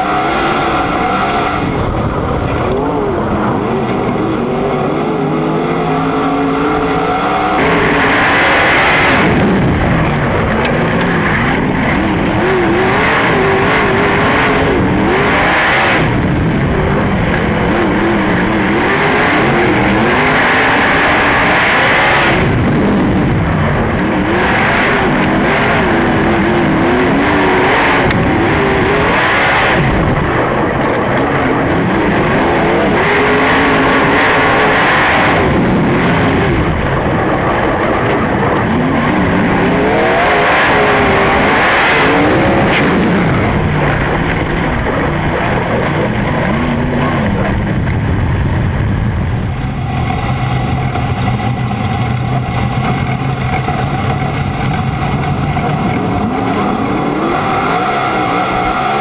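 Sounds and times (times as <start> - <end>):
racing car engine: 0.0 - 59.0.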